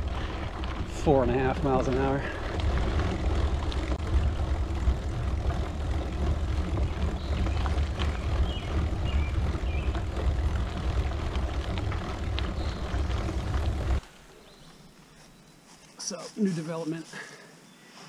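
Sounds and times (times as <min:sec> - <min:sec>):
wind rumbling on microphone: 0:00.0 - 0:14.7
bike tyres crunching on gravel: 0:00.0 - 0:18.0.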